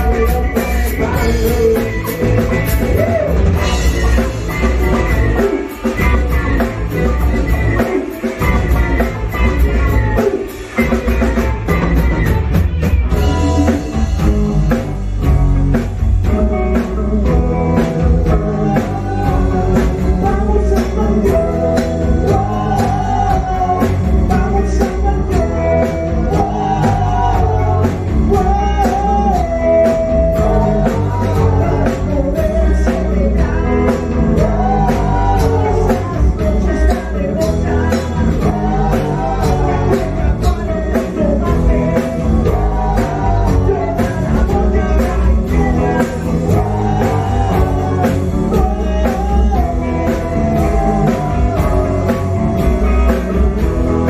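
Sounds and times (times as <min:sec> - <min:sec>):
man singing: 0:00.0 - 0:12.1, 0:13.1 - 0:54.0
drums: 0:00.0 - 0:54.0
guitar: 0:00.0 - 0:54.0.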